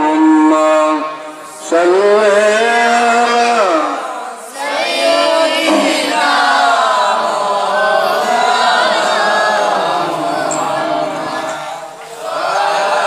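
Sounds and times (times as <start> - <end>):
person chanting melodically: 0.0 - 13.0.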